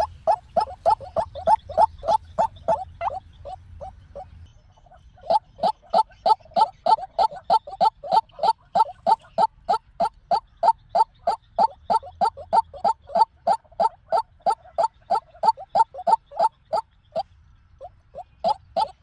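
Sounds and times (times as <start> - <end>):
waterhen croaking calls: 0.0 - 19.0.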